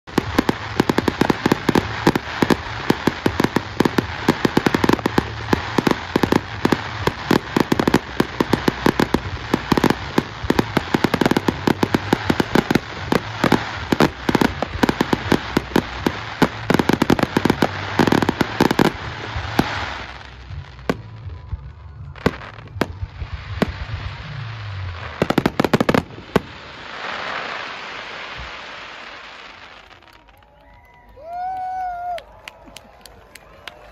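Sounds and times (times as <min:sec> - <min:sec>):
fireworks bangs and cracks: 0:00.0 - 0:30.6
steady rush of noise: 0:00.0 - 0:33.9.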